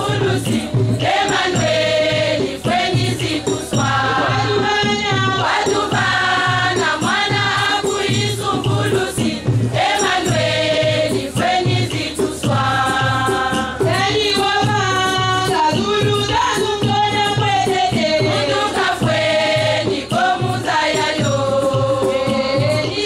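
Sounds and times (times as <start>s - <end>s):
women's choir singing: 0.0s - 23.0s.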